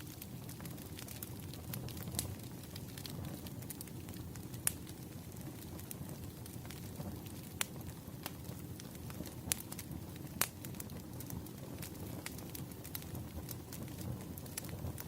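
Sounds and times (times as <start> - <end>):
sharp pops of burning logs: 0.0 - 15.0
wood fire crackling: 0.0 - 15.0.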